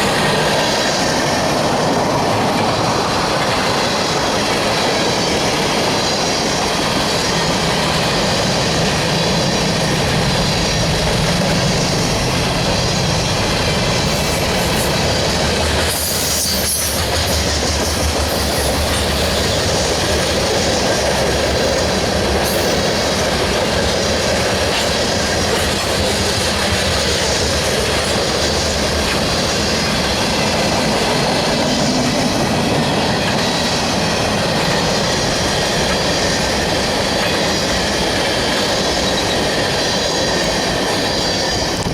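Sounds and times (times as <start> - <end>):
steel train wheels on rails: 0.0 - 41.9.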